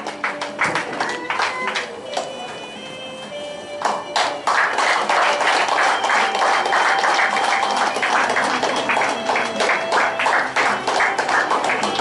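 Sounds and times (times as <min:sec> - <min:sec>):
audience applauding: 0:00.0 - 0:02.3, 0:04.1 - 0:12.0.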